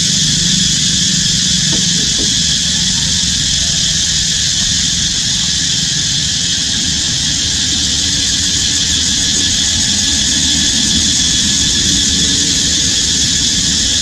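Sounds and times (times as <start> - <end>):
constant low rumble: 0.0 - 14.0
insect chorus drone: 0.0 - 14.0.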